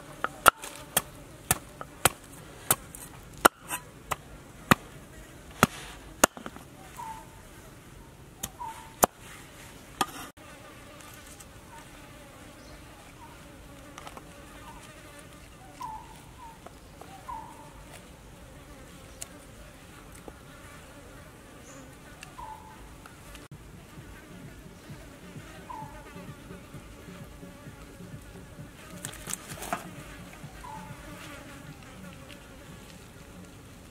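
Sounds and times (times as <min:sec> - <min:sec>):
flying insects buzzing: 0:00.0 - 0:33.9.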